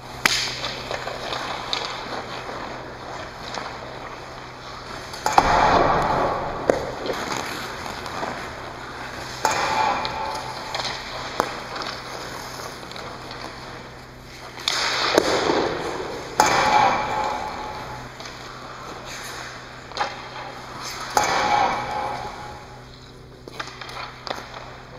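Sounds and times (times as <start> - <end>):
skates scraping on ice: 0.0 - 24.9
stick hitting puck: 0.1 - 24.8.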